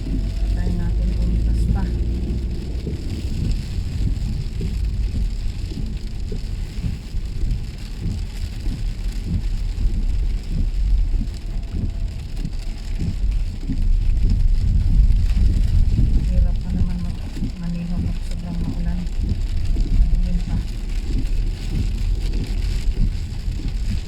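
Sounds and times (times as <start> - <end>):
car engine and tyres rumbling: 0.0 - 24.0
heavy rain pattering on car: 0.0 - 24.0.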